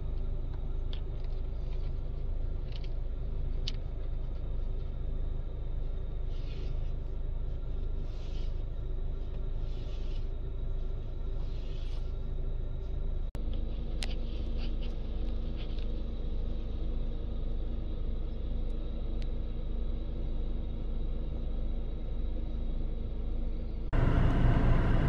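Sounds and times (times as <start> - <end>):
car idling inside cabin: 0.0 - 25.0
outdoor noise: 0.0 - 25.0.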